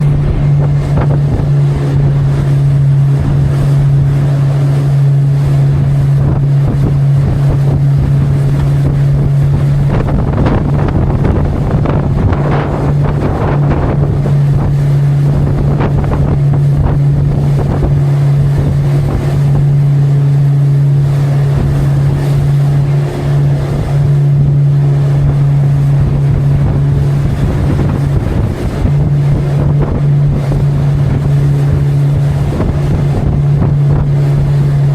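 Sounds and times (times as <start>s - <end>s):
motorboat engine droning: 0.0s - 34.9s
water rushing past hull: 0.0s - 34.9s
wind buffeting microphone: 0.0s - 34.9s.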